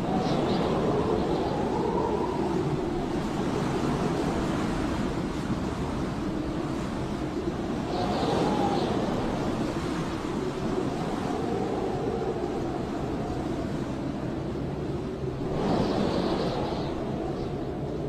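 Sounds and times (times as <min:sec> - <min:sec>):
blizzard wind howling: 0:00.0 - 0:18.0.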